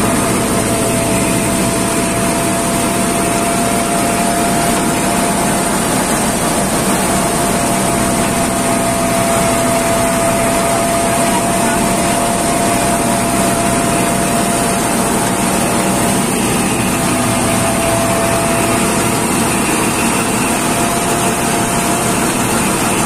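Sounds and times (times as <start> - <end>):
faint steady whine: 0.0 - 23.0
thresher running: 0.0 - 23.0.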